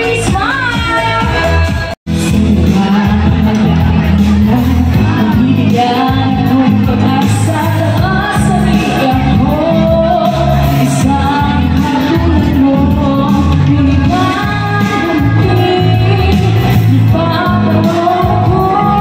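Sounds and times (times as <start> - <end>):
instrumental backing track: 0.0 - 19.0
woman singing into microphone: 0.0 - 19.0.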